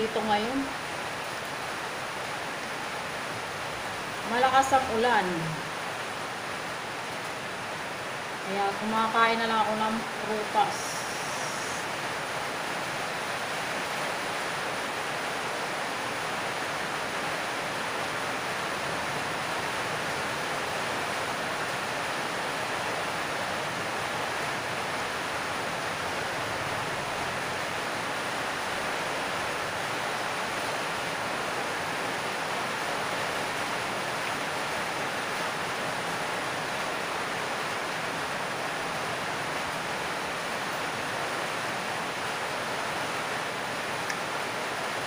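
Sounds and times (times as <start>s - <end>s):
heavy rain on a metal roof: 0.0s - 45.0s.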